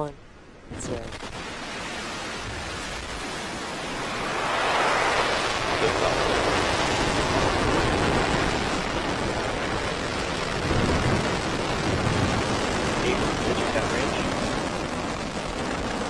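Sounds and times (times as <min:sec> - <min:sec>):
rocket engines crackling roar: 0:00.7 - 0:16.0.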